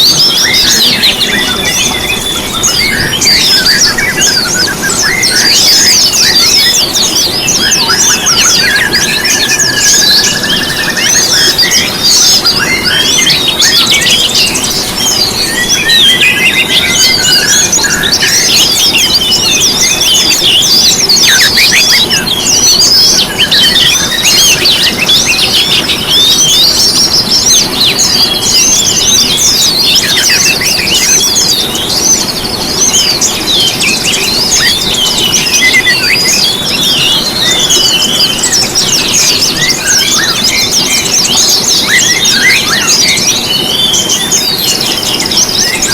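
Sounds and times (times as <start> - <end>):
songbirds chirping and twittering: 0.0 - 45.9.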